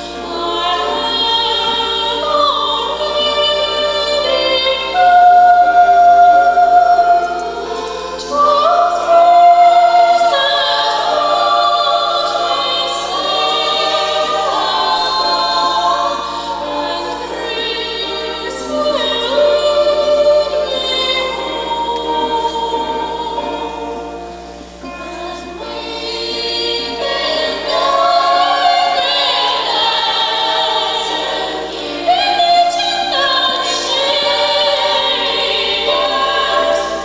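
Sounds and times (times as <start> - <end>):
church choir singing a hymn: 0.0 - 37.0.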